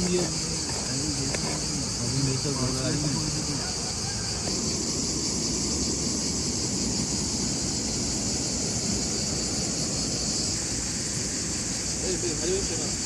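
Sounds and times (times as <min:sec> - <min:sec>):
cricket chorus chirring: 0:00.0 - 0:13.0.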